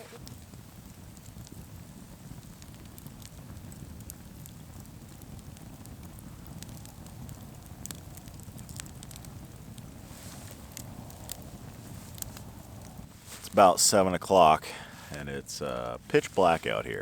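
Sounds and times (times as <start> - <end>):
campfire crackling and popping: 0.0 - 17.0
low fire rumble: 0.1 - 17.0.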